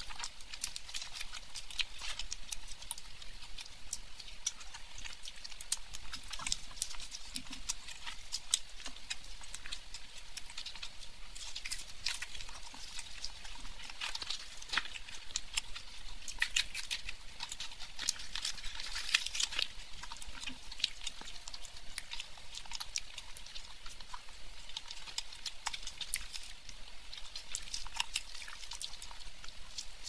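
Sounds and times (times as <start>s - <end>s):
chewing: 0.0s - 30.0s
wet mouth clicks: 0.0s - 30.0s.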